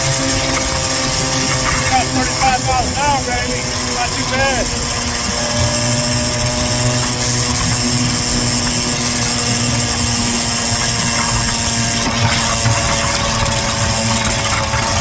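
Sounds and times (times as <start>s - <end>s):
small gas engine buzzing: 0.0s - 15.0s.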